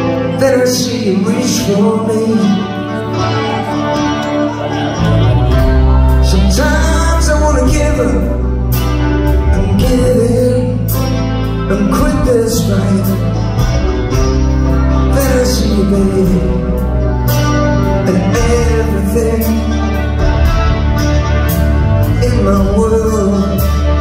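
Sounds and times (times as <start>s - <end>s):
song with singing and instruments: 0.0s - 24.0s.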